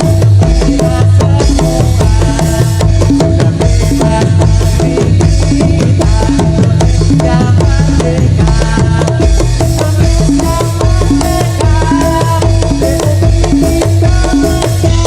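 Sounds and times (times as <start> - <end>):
fast drum rhythm: 0.0 - 15.0.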